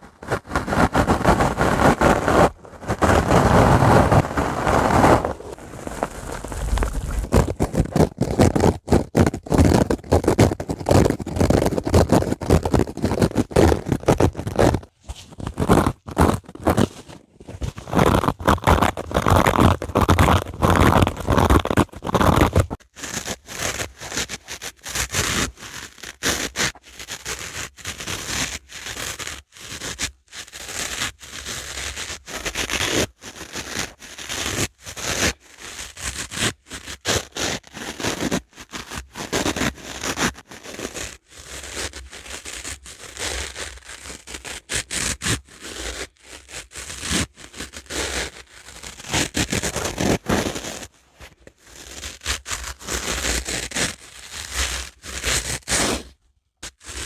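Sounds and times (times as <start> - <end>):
dry sponge scraping: 0.0 - 57.0.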